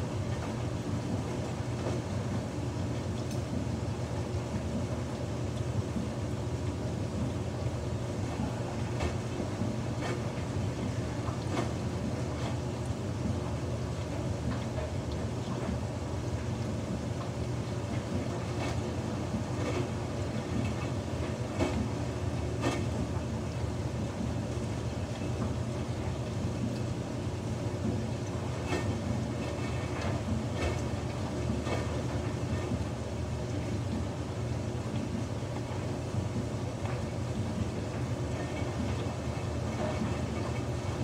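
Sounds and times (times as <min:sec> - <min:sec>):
washing machine motor hum: 0:00.0 - 0:41.0
water sloshing in drum: 0:00.0 - 0:41.0.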